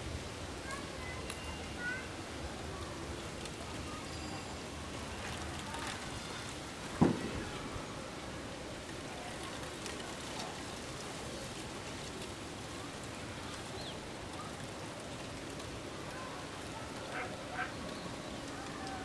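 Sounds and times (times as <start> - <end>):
steady outdoor noise: 0.0 - 19.0.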